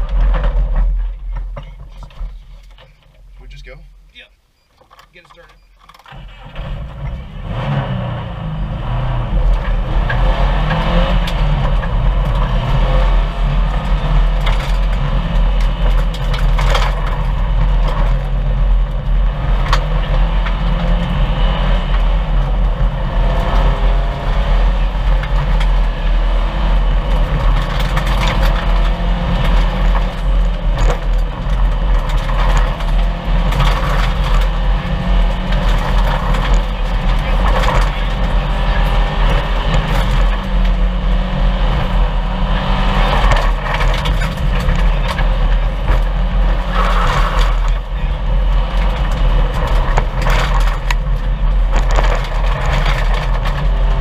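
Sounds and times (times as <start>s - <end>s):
rally car engine revving under load: 6.1s - 54.0s.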